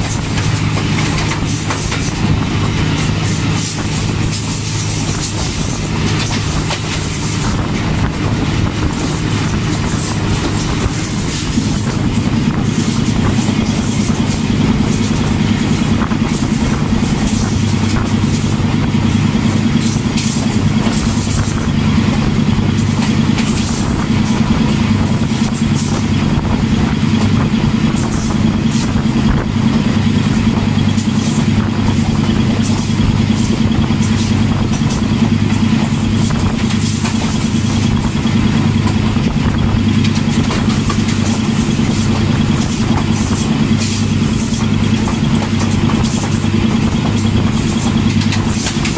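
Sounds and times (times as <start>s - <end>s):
locomotive diesel engine running: 0.0s - 48.9s
train wheels clattering on rail: 0.0s - 48.9s.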